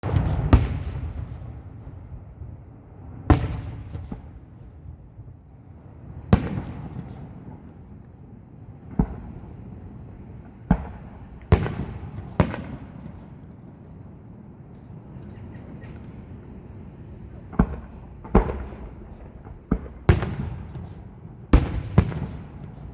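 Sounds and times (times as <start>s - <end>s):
fireworks booming: 0.0s - 13.8s, 17.2s - 22.9s.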